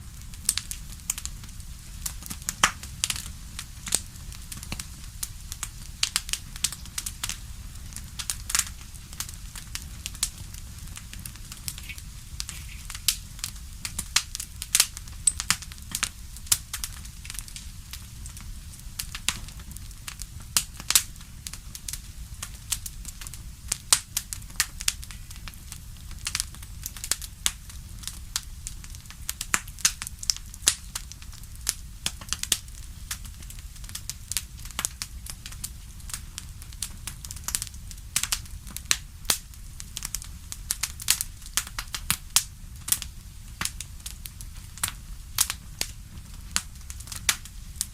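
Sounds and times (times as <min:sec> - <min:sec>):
wood fire crackling: 0:00.0 - 0:47.9
sharp pops of fire: 0:00.1 - 0:47.9.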